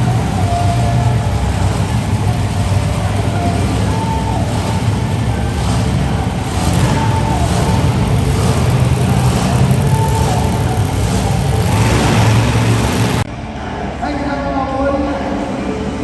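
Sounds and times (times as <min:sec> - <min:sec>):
loud truck engine running: 0:00.0 - 0:13.5.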